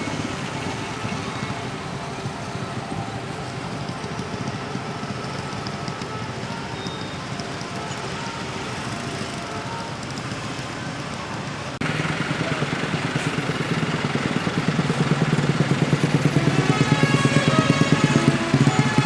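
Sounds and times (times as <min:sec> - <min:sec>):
close engine low pulsing: 0:00.0 - 0:19.0
traffic jam engines running: 0:00.0 - 0:19.0.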